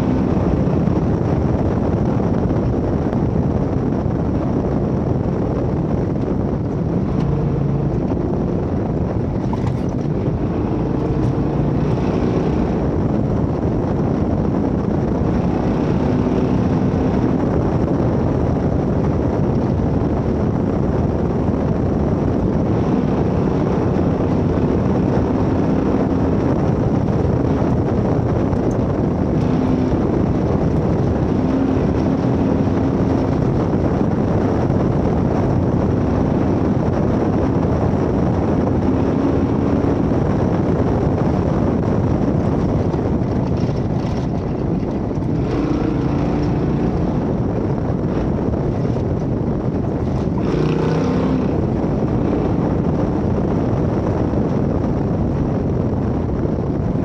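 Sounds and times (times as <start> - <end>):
off-road vehicle engine: 0.0 - 57.0
road and wind noise: 0.0 - 57.0.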